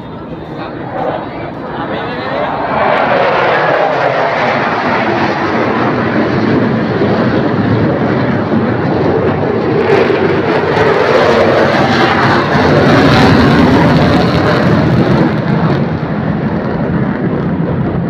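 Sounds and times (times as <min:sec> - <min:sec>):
fighter jets roaring overhead: 0:00.0 - 0:18.0.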